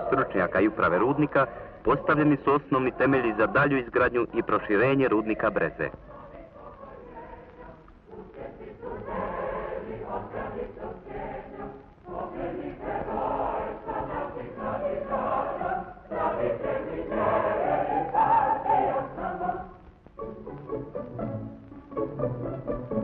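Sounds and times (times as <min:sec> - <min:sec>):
muffled choir singing: 0:00.0 - 0:23.0.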